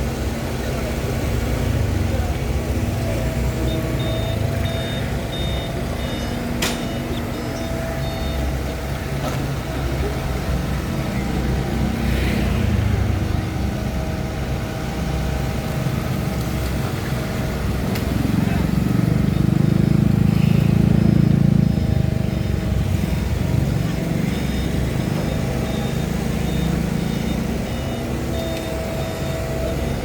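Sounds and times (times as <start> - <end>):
excavator engine running: 0.0 - 30.0
travel alarm beeping: 0.6 - 16.0, 17.4 - 30.0.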